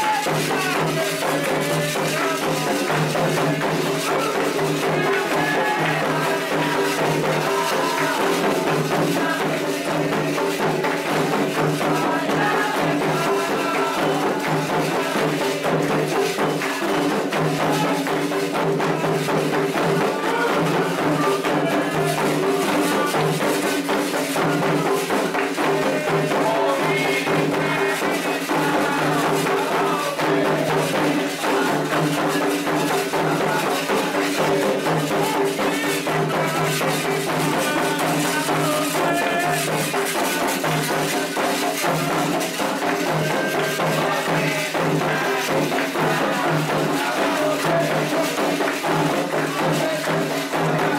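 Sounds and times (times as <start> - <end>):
drums: 0.0 - 50.9
group chanting: 0.0 - 50.9
rattling and ringing percussion: 0.0 - 50.9.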